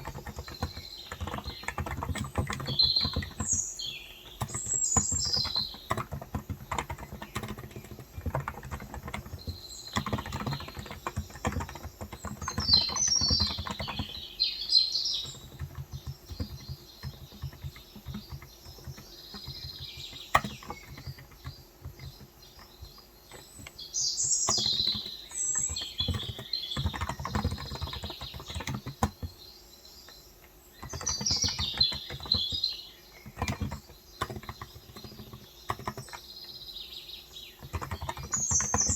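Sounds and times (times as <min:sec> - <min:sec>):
birds chirping: 0:00.0 - 0:38.9
soft keyboard typing: 0:00.0 - 0:38.9.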